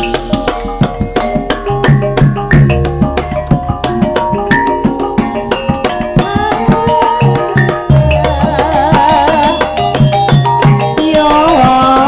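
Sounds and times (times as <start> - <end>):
held pitched notes: 0.0 - 11.0
wavering melody line: 0.0 - 11.2
hand drums beating: 0.0 - 12.0.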